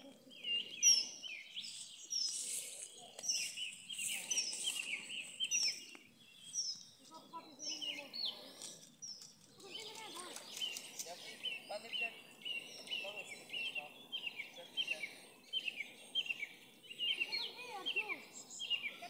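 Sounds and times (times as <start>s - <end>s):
other birds calling: 0.0s - 19.0s
songbird high chirps: 0.0s - 19.0s.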